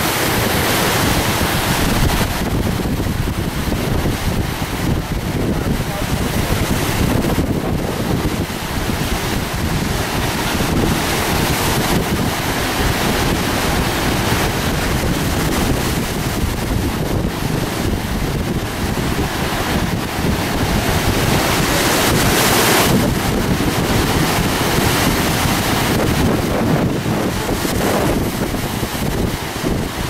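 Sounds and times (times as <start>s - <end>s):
heavy surf breaking: 0.0s - 30.0s
wind buffeting microphone: 0.0s - 30.0s.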